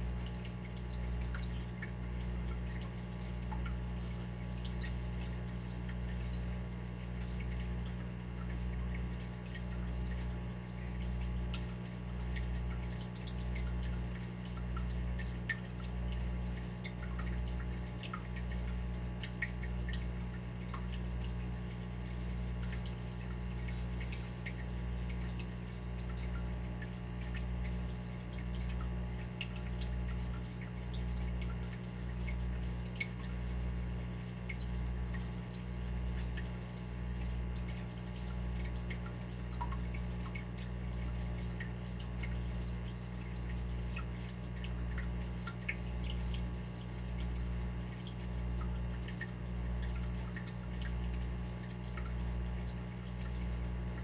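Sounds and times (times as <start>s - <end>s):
water dripping: 0.0s - 54.0s.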